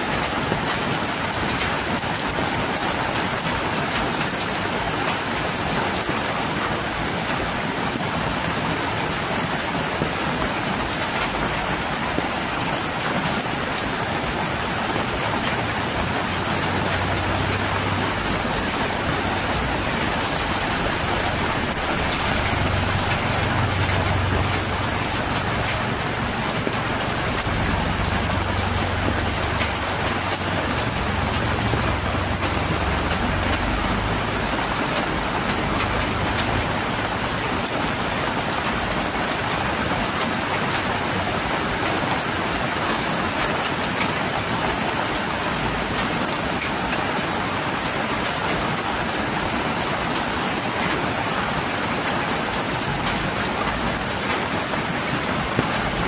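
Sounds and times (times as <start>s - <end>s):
heavy rain on street: 0.0s - 56.0s
water pouring off roof: 0.0s - 56.0s.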